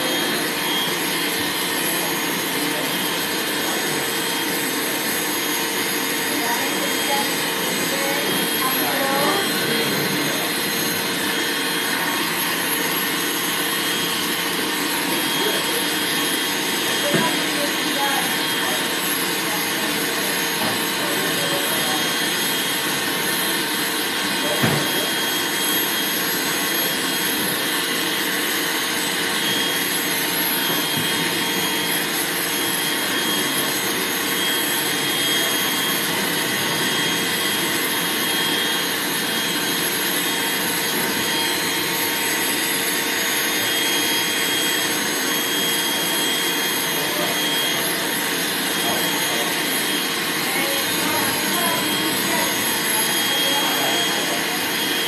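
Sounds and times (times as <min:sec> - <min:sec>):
dryer blowing air with motor whine: 0:00.0 - 0:55.0.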